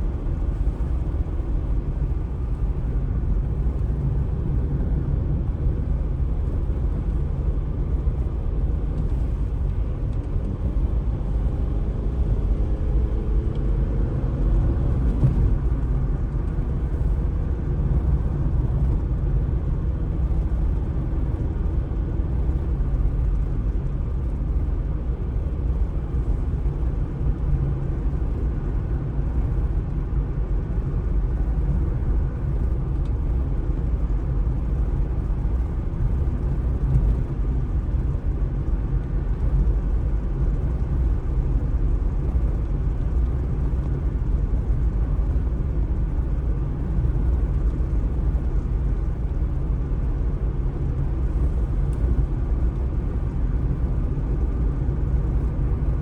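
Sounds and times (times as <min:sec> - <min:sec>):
street ambience rumble: 0:00.0 - 0:56.0.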